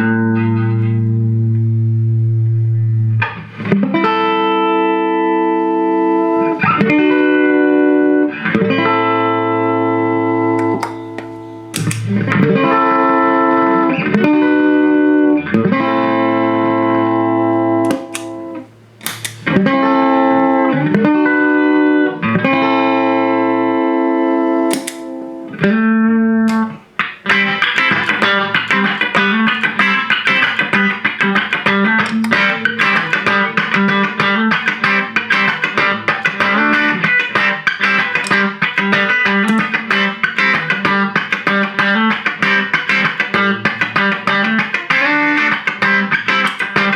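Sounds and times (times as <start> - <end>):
clean electric guitar: 0.0 - 46.9.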